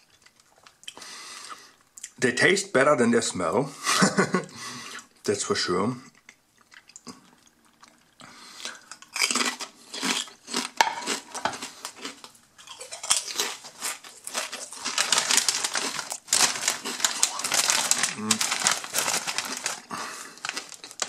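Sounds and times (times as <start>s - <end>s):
potato chips being chewed: 0.0s - 2.2s, 6.1s - 21.0s.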